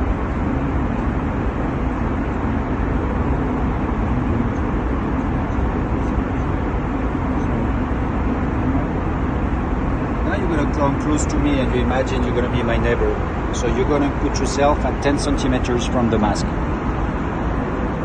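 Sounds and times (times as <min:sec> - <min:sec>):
aircraft cabin engine hum: 0:00.0 - 0:18.0.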